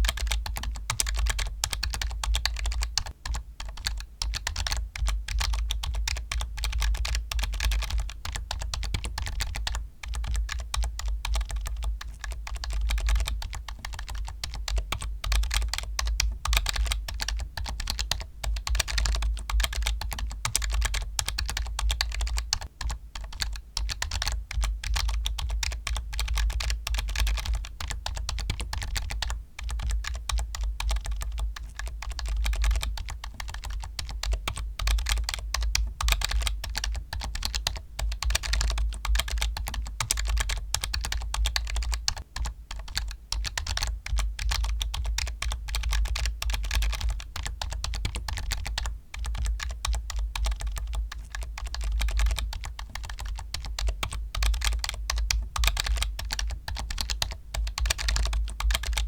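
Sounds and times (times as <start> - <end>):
typing on computer keyboard: 0.0 - 59.0.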